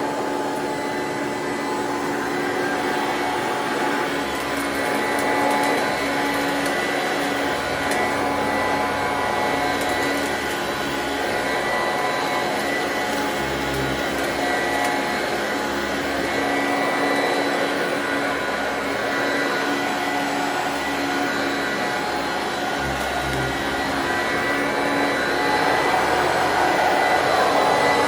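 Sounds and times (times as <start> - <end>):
vacuum cleaner motor whine: 0.0 - 28.0.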